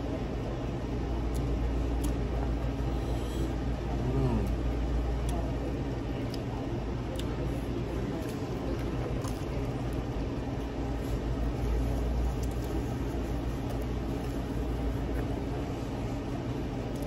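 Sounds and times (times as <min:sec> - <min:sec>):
low indoor rumble: 0:00.0 - 0:17.0.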